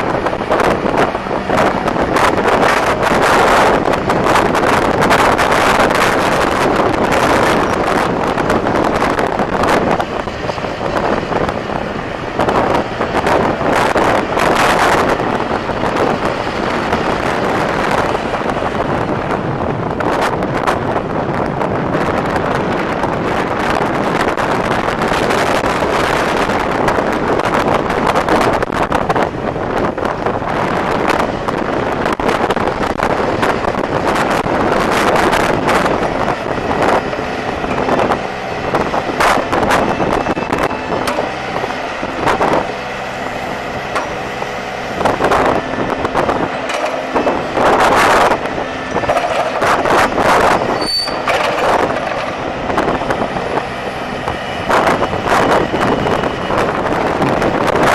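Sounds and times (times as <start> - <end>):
diesel engine running: 0.0 - 57.9
wind buffeting microphone: 0.0 - 57.9.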